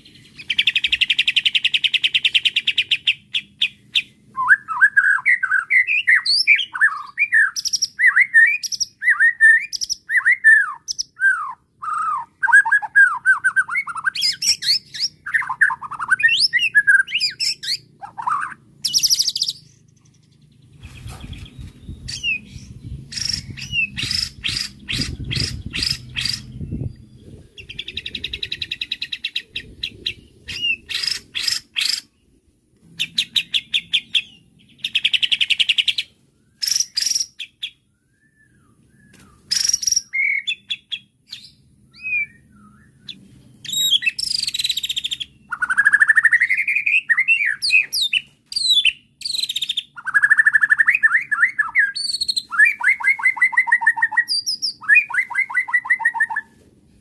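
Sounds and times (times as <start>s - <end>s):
bird singing varied song: 0.0s - 56.6s.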